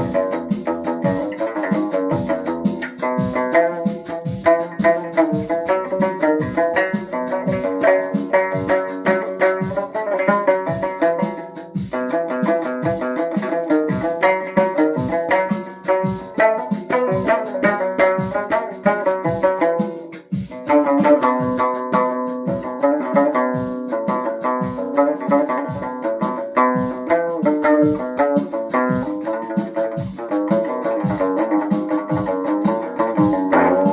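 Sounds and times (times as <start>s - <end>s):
plucked string instrument: 0.0s - 33.9s
steady low beat: 0.0s - 33.9s.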